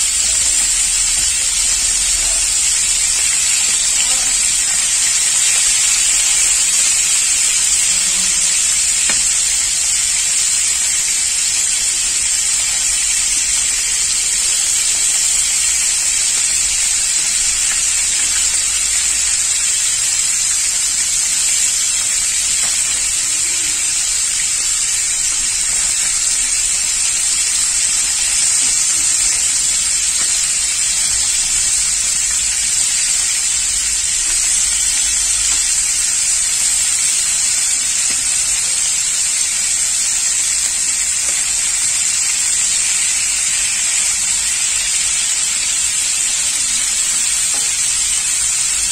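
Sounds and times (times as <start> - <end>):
fish frying in hot oil: 0.0 - 48.9.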